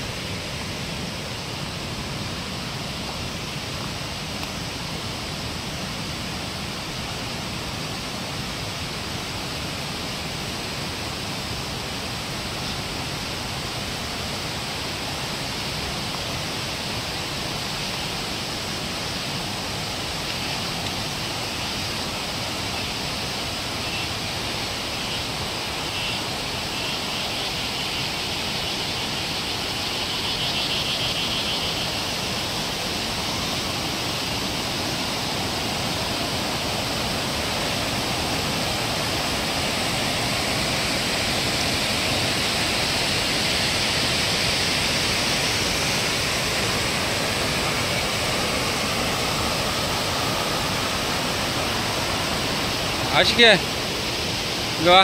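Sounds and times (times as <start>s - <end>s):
water rushing down a weir: 0.0s - 55.0s.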